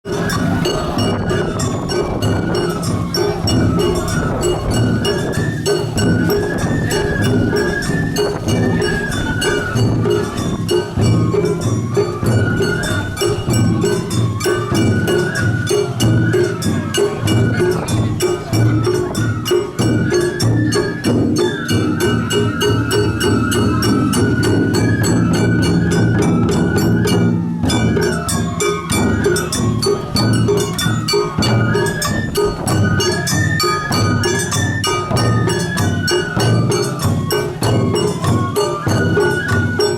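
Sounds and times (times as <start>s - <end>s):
drum beats: 0.0s - 39.9s
metallic clanking percussion: 0.0s - 39.9s
high piping melody: 0.1s - 39.9s.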